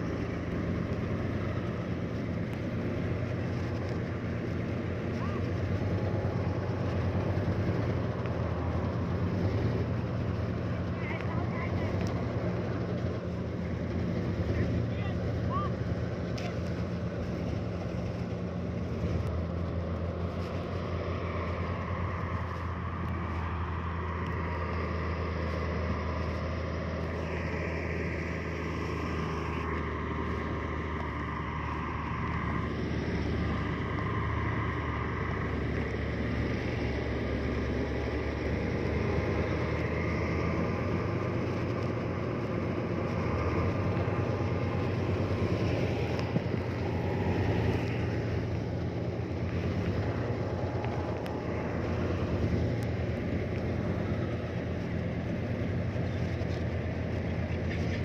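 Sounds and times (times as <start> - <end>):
heavy diesel engine under load: 0.0 - 58.0.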